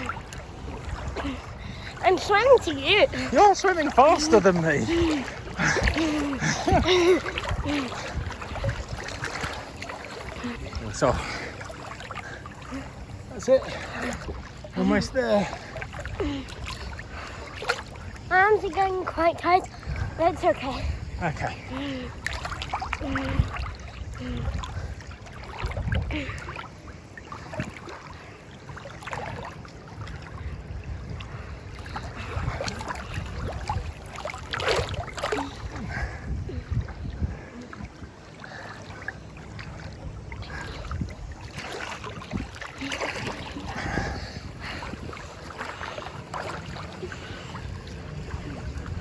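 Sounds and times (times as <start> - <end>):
wind rumble on microphone: 0.0 - 11.4, 19.0 - 49.0
swimmers splashing in water: 0.0 - 30.2, 31.4 - 36.2, 37.3 - 49.0.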